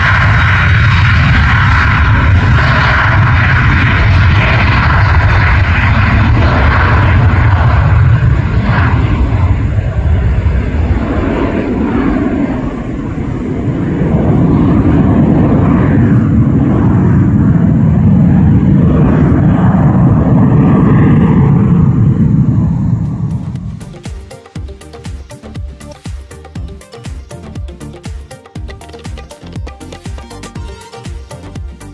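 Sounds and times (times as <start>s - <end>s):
jet engine rumble: 0.0s - 31.9s.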